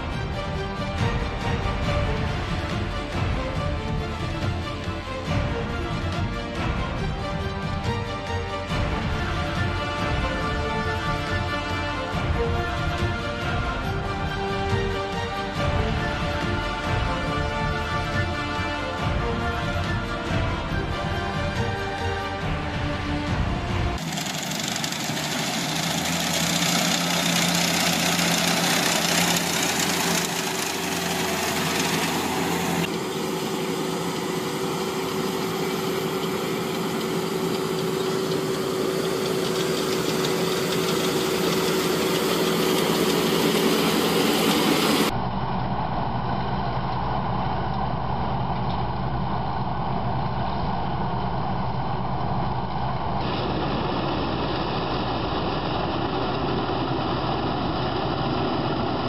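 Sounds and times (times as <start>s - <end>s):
farm machinery engines running: 0.0s - 45.2s, 48.3s - 59.0s.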